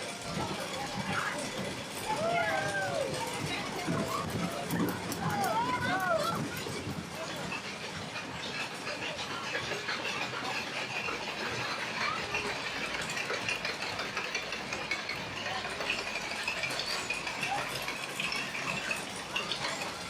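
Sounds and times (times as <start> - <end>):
ride machinery clicking and rattling: 0.0 - 20.0.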